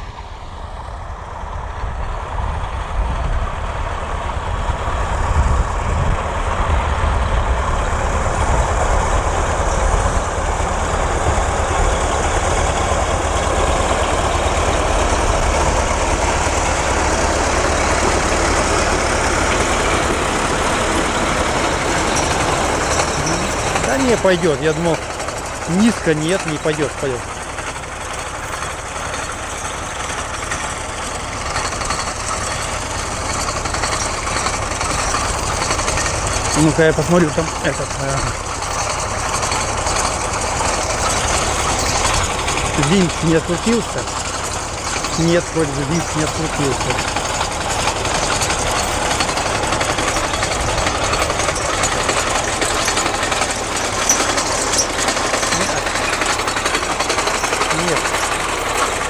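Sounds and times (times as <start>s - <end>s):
tractor diesel engine running: 0.0s - 59.0s
mower cutter bar clatter: 11.0s - 59.0s.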